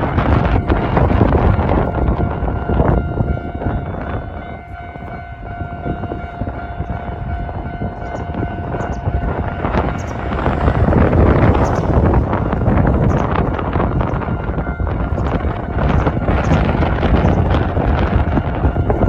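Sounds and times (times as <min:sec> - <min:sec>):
steady pitched tone: 0:00.0 - 0:19.0
wind buffeting microphone: 0:00.0 - 0:19.0.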